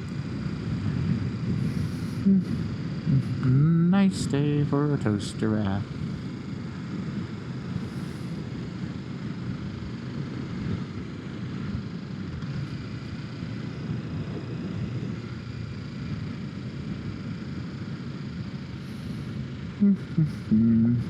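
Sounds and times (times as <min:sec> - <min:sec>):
motorcycle engine running: 0:00.0 - 0:21.0
wind and road noise: 0:00.0 - 0:21.0.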